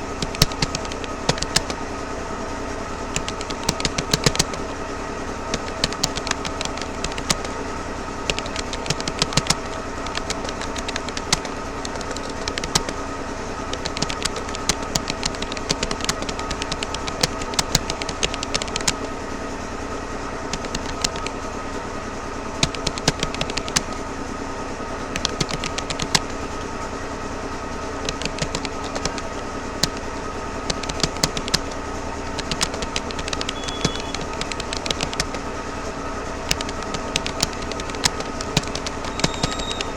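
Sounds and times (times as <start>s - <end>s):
keyboard typing: 0.0s - 1.9s, 2.8s - 19.2s, 20.4s - 21.5s, 22.5s - 24.0s, 25.0s - 27.0s, 27.8s - 39.9s
steady background hum: 0.0s - 39.9s.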